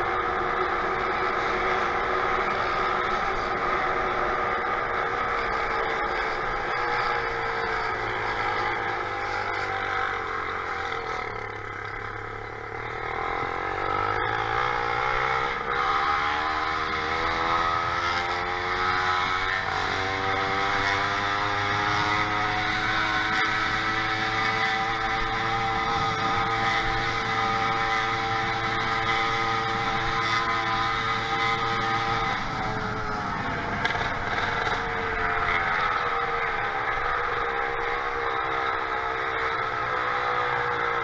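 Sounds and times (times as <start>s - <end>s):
small engine running: 0.0s - 41.0s
wind and road noise: 0.0s - 41.0s.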